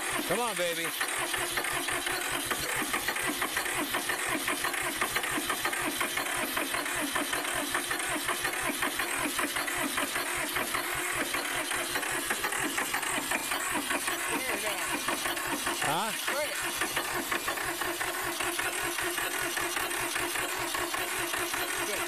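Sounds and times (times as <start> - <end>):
diesel engine cranking on starter: 0.0 - 22.0.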